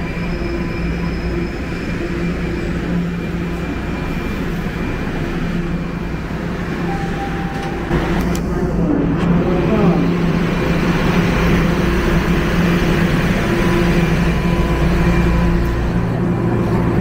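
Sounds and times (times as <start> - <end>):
subway train rumble and hum: 0.0 - 17.0.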